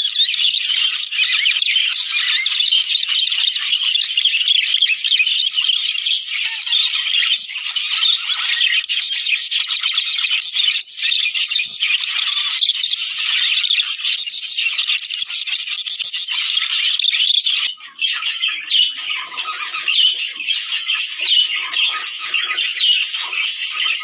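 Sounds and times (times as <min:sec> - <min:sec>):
budgerigars chattering: 0:00.0 - 0:24.0.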